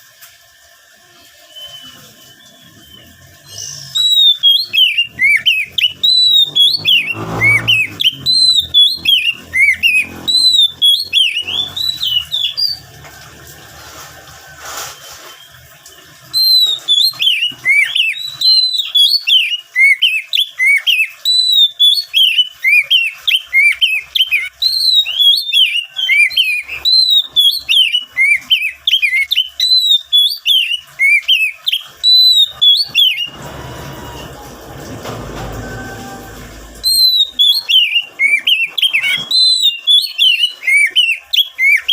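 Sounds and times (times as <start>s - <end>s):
bird singing whistled notes: 1.5s - 12.9s, 16.3s - 33.4s, 36.6s - 41.9s.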